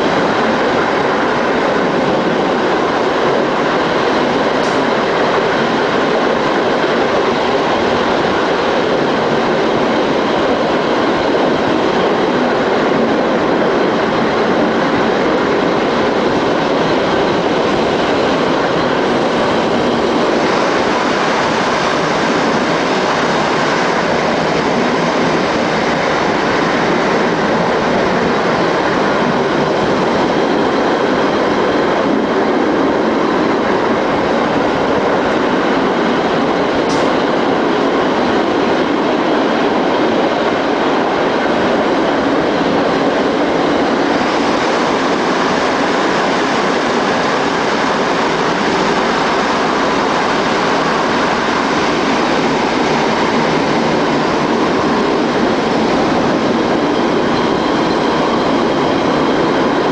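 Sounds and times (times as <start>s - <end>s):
railcar wheels rumbling on rails: 0.0s - 59.9s.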